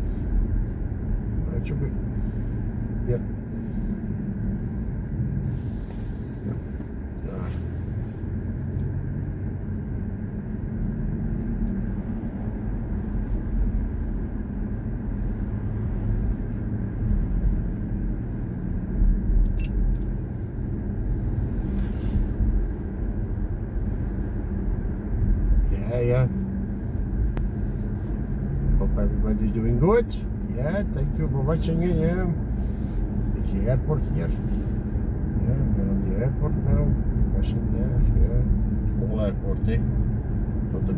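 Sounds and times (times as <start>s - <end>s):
road and tyre rumble inside car: 0.0s - 40.9s.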